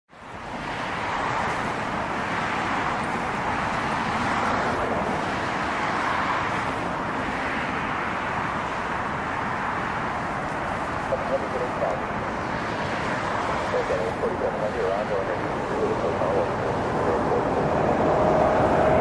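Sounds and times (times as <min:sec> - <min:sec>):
jet engines roaring: 0:00.4 - 0:19.0.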